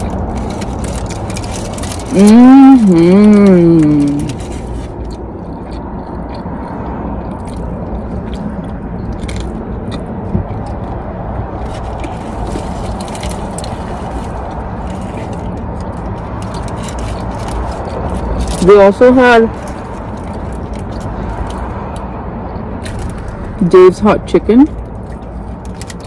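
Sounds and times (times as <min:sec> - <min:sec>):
biting and chewing sandwich: 0:00.0 - 0:23.6, 0:24.7 - 0:26.0
low background hum: 0:00.0 - 0:26.0.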